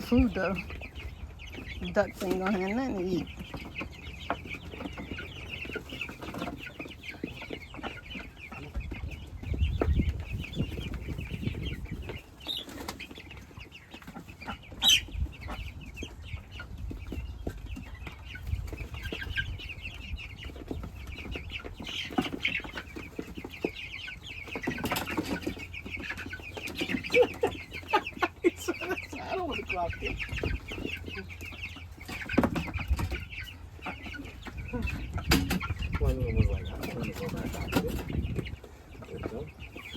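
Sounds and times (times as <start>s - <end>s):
chickens clucking: 0.0s - 39.9s
chicks cheeping: 0.0s - 39.9s.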